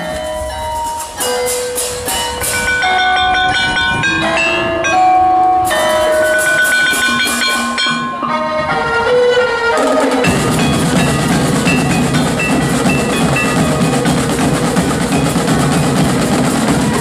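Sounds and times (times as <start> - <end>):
marching drum band playing: 0.0 - 4.4, 5.6 - 8.0, 9.7 - 17.0.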